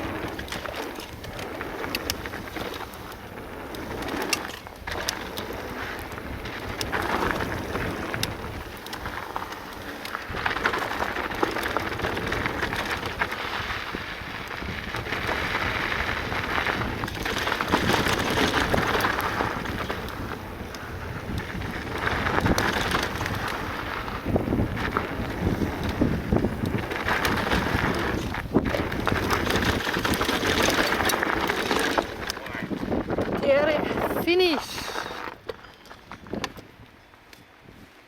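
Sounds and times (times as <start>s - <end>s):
bike rattles and knocks: 0.0s - 36.8s
bike tyres crunching on gravel: 0.0s - 38.0s
wind buffeting microphone: 0.0s - 38.0s.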